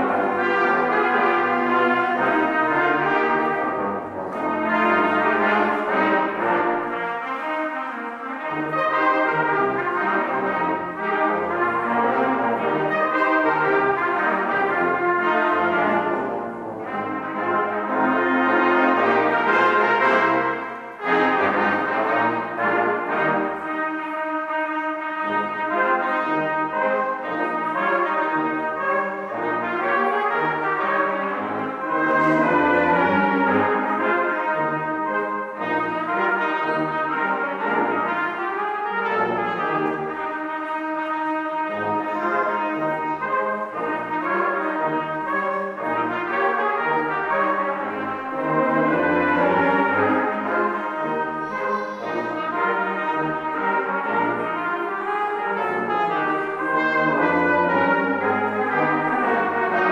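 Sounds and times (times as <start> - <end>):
brass ensemble playing: 0.0 - 59.9.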